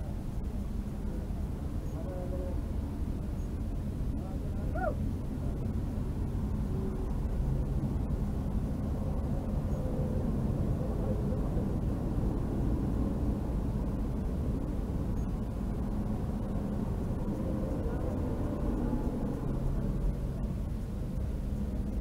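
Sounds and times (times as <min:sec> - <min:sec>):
highway traffic rumble: 0:00.0 - 0:22.0.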